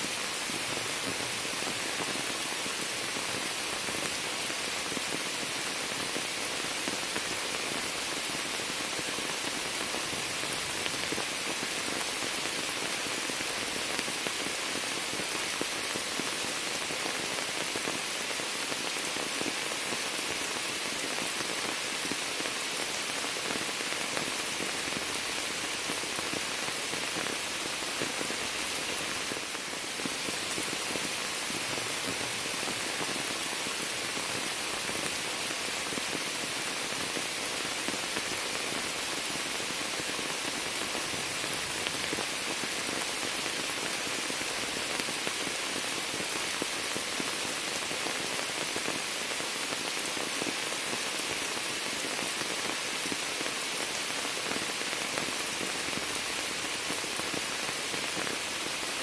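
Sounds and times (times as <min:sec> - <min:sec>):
heavy rain on water and shrubs: 0:00.0 - 0:59.0.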